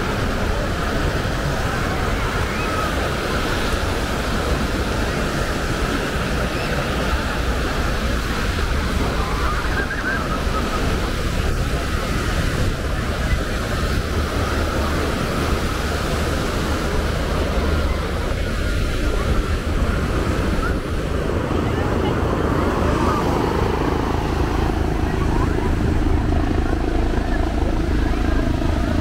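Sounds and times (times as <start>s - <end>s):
faint crowd voices: 0.0s - 29.0s
ocean surf breaking: 0.0s - 29.0s
wind buffeting microphone: 0.0s - 29.0s.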